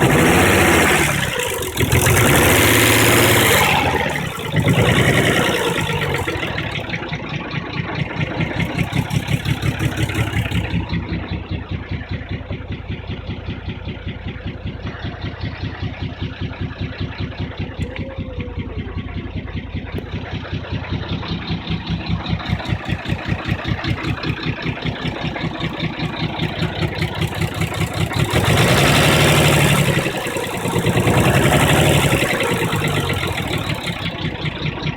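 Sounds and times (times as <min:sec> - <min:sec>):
car engine idling: 0:00.0 - 0:34.9
engine revving: 0:00.0 - 0:34.9.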